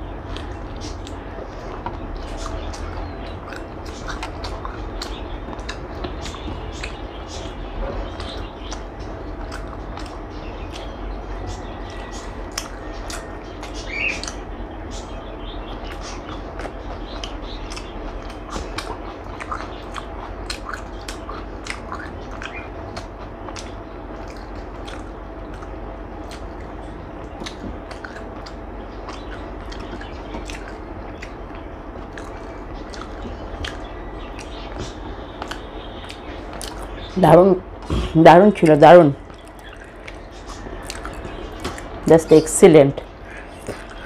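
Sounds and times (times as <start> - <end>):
person chewing with wet clicks: 0.0 - 37.2, 39.2 - 42.0, 43.0 - 44.0
steady low hum: 0.0 - 44.0.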